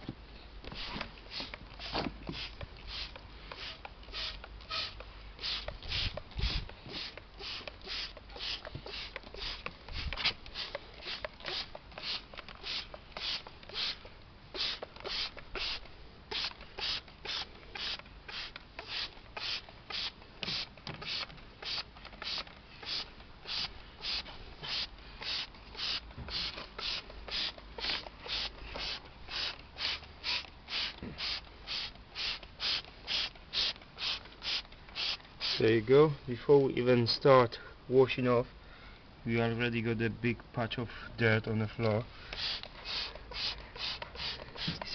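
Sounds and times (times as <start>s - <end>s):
trigger sprayer hissing: 0.7s - 35.7s, 42.3s - 44.9s.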